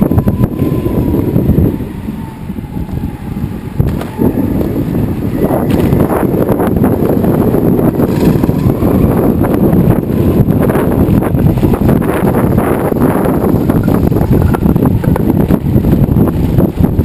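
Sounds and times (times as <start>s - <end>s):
skateboard wheels rumbling on paving: 0.0s - 17.0s
wind buffeting microphone: 0.0s - 17.0s.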